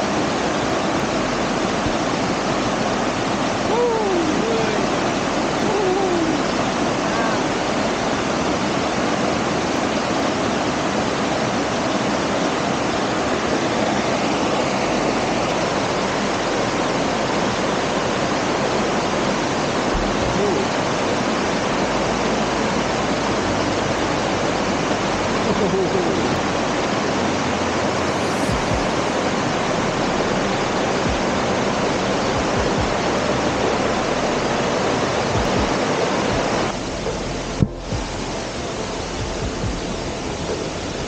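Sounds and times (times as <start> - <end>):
waterfall rushing into pool: 0.0 - 41.0.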